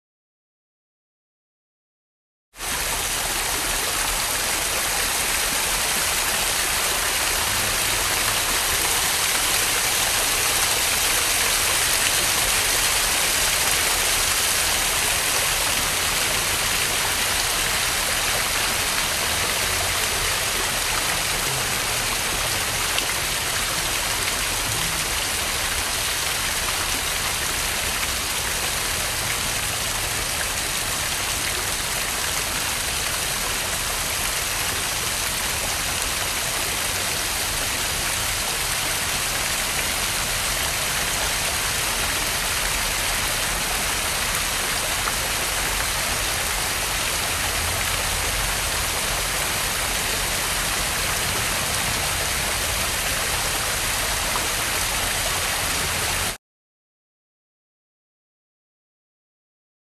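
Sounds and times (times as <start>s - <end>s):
small waterfall splashing: 2.6s - 56.4s.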